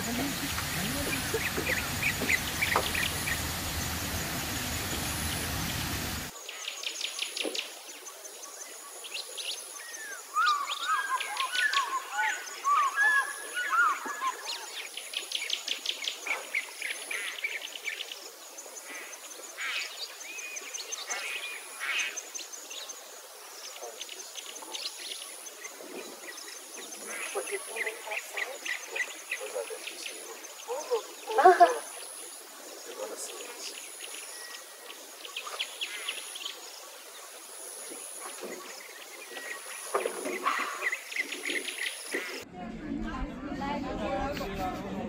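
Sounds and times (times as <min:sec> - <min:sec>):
bird warbling song: 0:00.0 - 0:18.2, 0:23.6 - 0:37.3, 0:37.9 - 0:42.4
small waterfall splashing: 0:00.0 - 0:42.4
birds chirping and trilling: 0:00.0 - 0:42.5.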